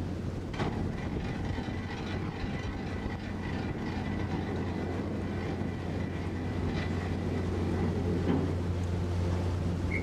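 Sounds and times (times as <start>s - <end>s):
ship engines droning: 0.0s - 10.0s.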